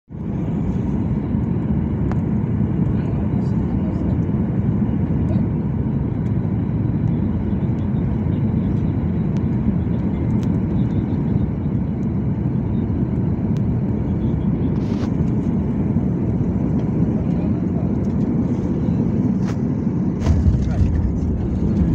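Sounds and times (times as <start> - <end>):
jet engines roaring: 0.2 - 21.9.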